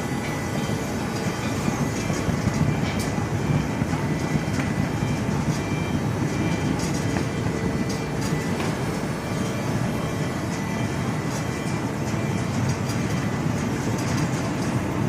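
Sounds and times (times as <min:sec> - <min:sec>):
conveyor line rumbling: 0:00.0 - 0:15.0.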